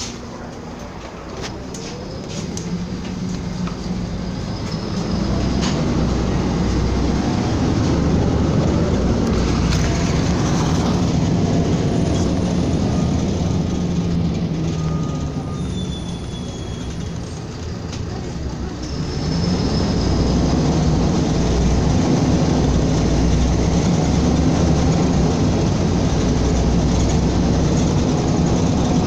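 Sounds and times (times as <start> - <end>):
bus engine hum: 0.0 - 29.0
road rumble: 0.0 - 29.0.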